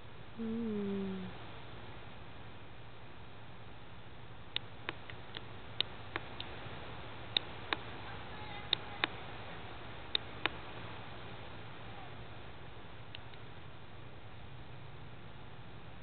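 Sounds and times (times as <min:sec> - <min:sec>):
low hum: 0:00.0 - 0:16.0
steady hiss: 0:00.0 - 0:16.0.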